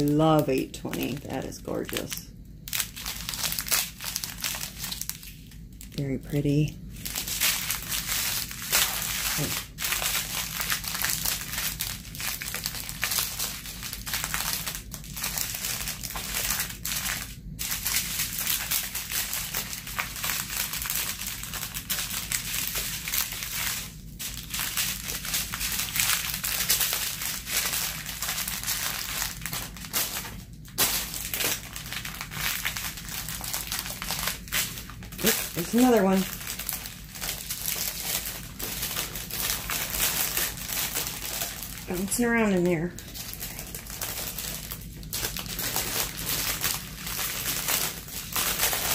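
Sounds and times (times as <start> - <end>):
plastic bags crinkling: 0.0 - 48.9.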